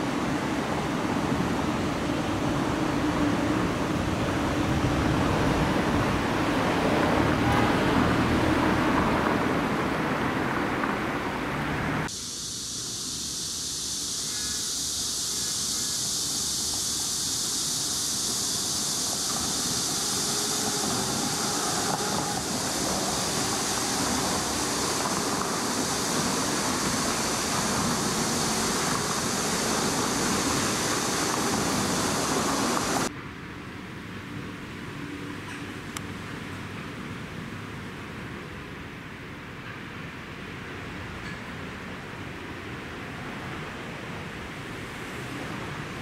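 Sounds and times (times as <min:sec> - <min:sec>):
high-pitched hiss: 0:00.0 - 0:10.2, 0:12.0 - 0:33.1, 0:39.2 - 0:46.0.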